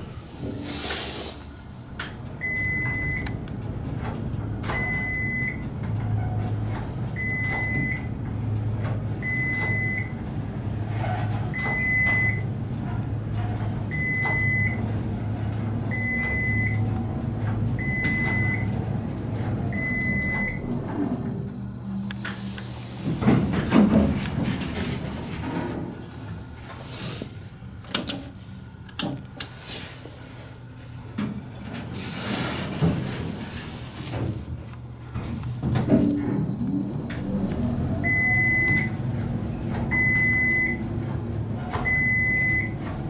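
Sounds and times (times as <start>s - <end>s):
elevator hum: 0.0s - 43.0s.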